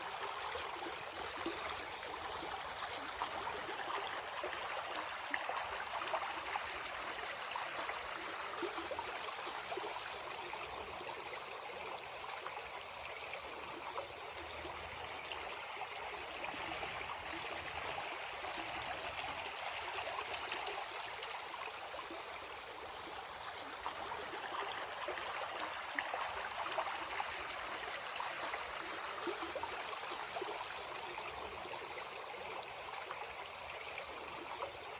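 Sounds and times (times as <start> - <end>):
creek water running over rocks: 0.0 - 34.9.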